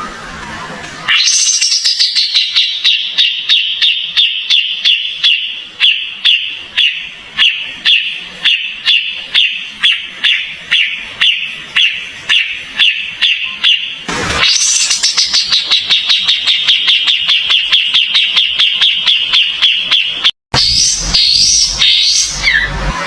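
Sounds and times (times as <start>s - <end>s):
bird calling sharp notes: 1.1s - 23.0s.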